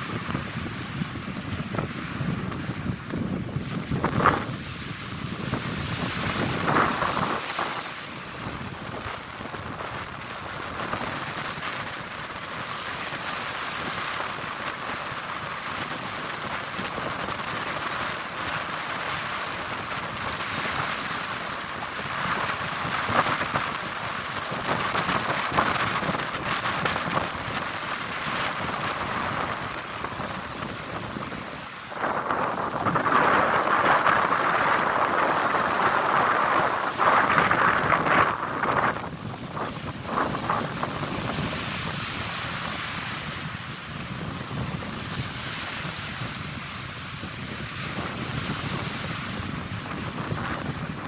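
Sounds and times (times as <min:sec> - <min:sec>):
small surf washing up beach: 0:00.0 - 0:51.0
wind buffeting microphone: 0:00.0 - 0:51.0.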